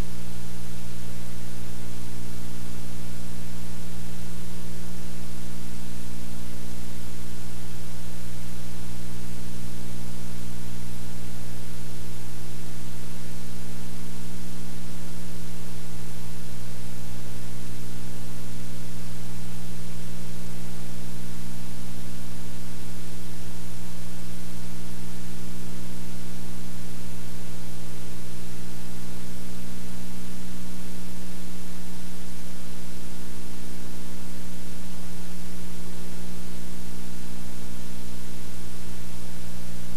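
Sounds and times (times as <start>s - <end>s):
electrical mains hum: 0.0s - 39.9s
tape hiss: 0.0s - 39.9s.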